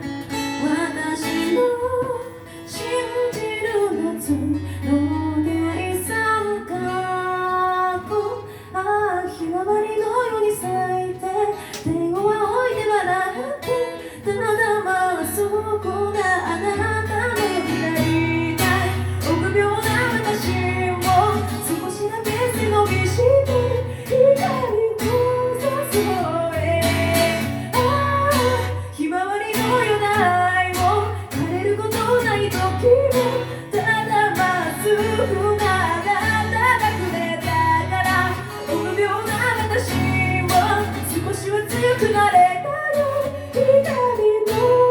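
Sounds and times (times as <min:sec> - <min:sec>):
acoustic accompaniment: 0:00.0 - 0:44.9
person singing: 0:00.6 - 0:44.9.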